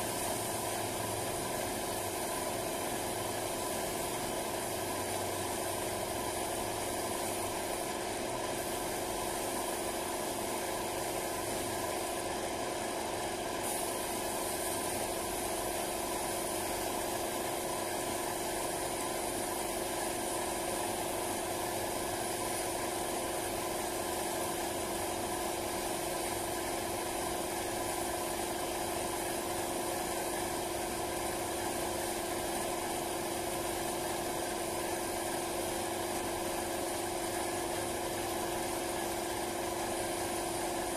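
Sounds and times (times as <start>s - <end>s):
air compressor humming: 0.0s - 40.9s
spray gun hissing: 0.0s - 40.9s.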